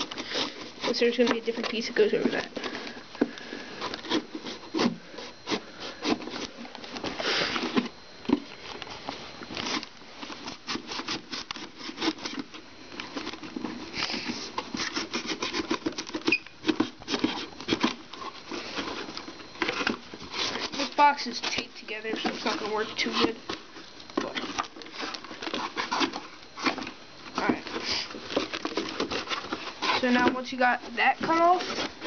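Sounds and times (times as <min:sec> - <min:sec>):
knife sawing through cardboard: 0:00.0 - 0:02.7, 0:03.6 - 0:08.1, 0:09.6 - 0:12.6, 0:13.2 - 0:23.4, 0:24.2 - 0:26.9, 0:27.7 - 0:30.3, 0:31.2 - 0:32.0
cardboard box being handled: 0:00.0 - 0:32.0.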